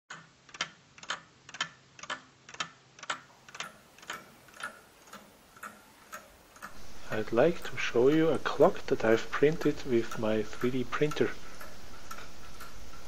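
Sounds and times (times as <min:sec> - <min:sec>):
plastic clock ticking: 0:00.1 - 0:13.0.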